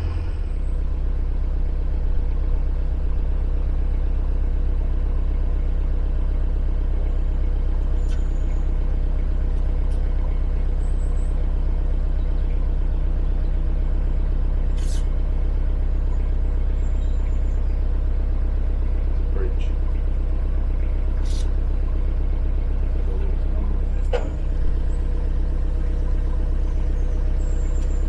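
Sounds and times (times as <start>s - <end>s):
boat diesel engine humming: 0.0s - 28.0s.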